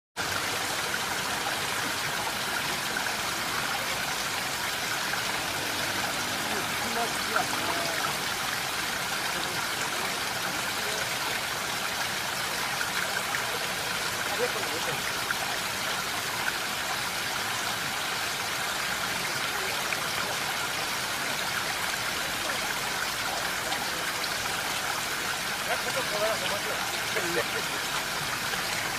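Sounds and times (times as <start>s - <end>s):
water rushing: 0.2s - 28.9s.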